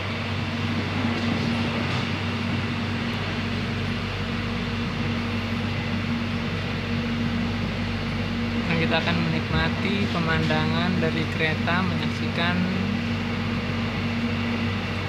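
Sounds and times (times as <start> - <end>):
constant low hum: 0.0 - 15.0
train carriage running rumble: 0.0 - 15.0.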